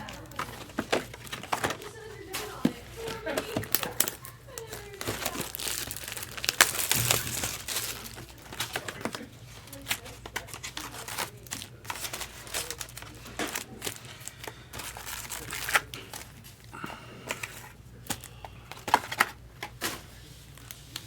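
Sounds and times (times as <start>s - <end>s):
cards being handled clicking: 0.0s - 16.6s, 17.2s - 21.0s
card pack wrappers crinkling and tearing: 0.0s - 21.0s.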